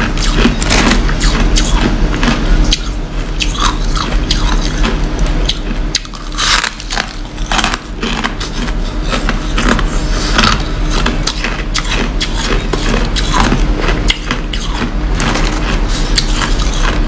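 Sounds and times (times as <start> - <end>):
ice crunching being chewed: 0.0 - 17.0.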